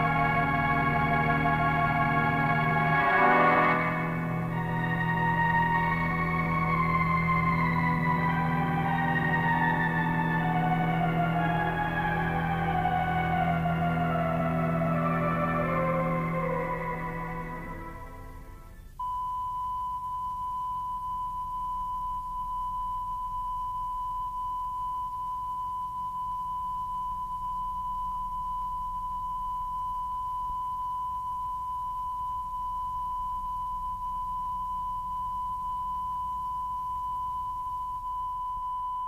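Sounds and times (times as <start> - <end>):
faint low hum: 0.0 - 39.0
steady test tone: 0.0 - 39.0.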